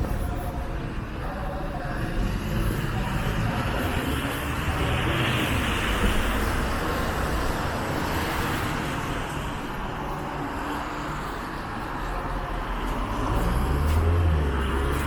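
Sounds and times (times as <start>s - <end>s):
road vehicles passing: 0.0s - 15.0s.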